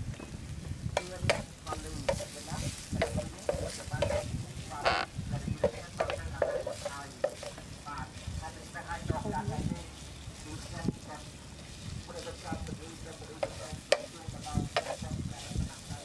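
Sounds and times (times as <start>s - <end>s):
ginger sizzling in frying pan: 0.0s - 16.0s
wooden spatula scraping pan: 1.0s - 10.8s, 11.6s - 16.0s.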